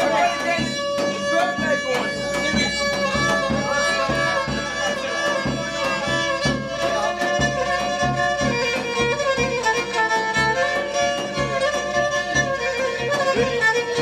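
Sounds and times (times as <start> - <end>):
bowed lyra melody: 0.0 - 14.0
low drum beat: 0.0 - 14.0.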